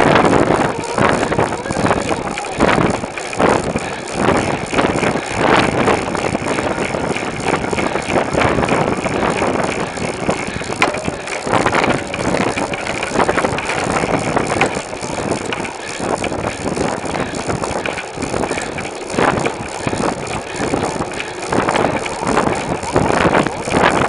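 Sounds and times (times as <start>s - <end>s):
bicycle knocks and rattles: 0.0s - 24.0s
rush of air and road: 0.0s - 24.0s.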